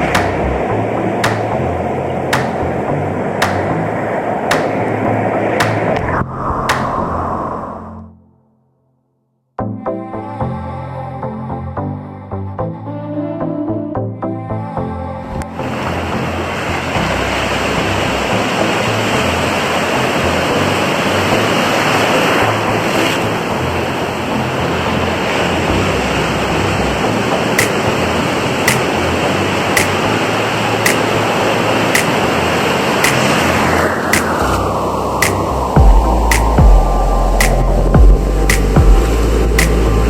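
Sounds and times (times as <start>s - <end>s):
ocean surf breaking: 0.0s - 8.0s, 15.6s - 40.0s.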